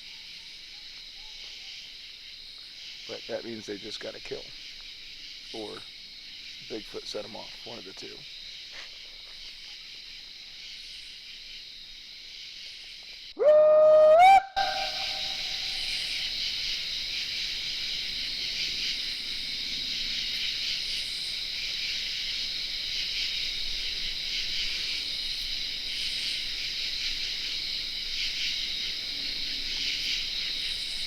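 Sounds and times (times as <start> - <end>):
night insects trilling: 0.0 - 31.0.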